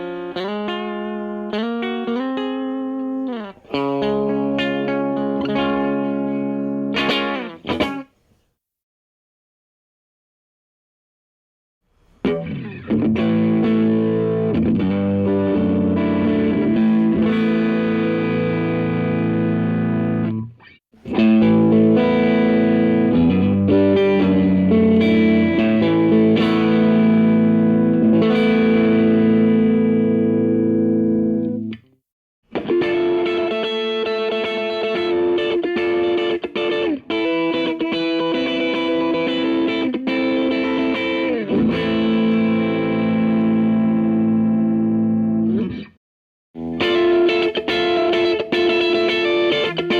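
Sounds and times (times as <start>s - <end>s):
electric guitar strumming chords: 0.0s - 8.1s, 12.2s - 31.9s, 32.5s - 46.0s, 46.6s - 49.9s.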